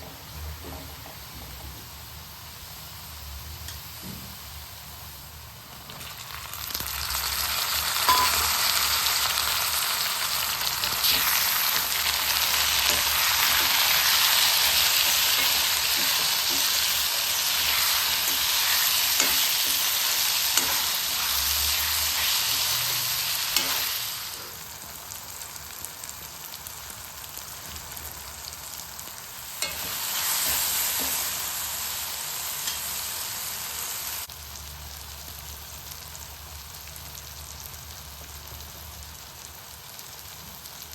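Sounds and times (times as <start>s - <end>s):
food sizzling in a hot pan: 0.0s - 40.9s.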